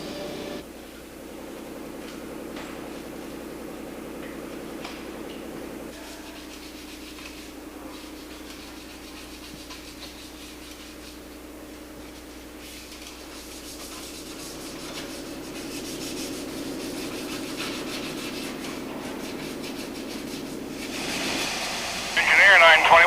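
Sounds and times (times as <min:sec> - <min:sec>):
machine humming with rasping texture: 0:00.0 - 0:22.2.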